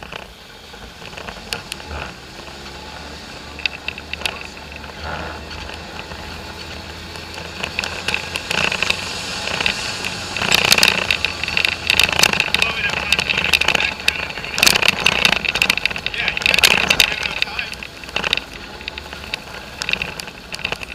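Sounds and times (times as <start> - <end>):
knocks and rattles: 0.0 - 20.9
off-road vehicle engine hum: 0.0 - 20.9.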